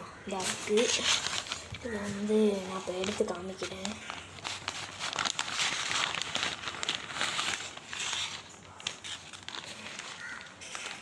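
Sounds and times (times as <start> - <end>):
packaging crinkling and rustling: 0.3 - 11.0.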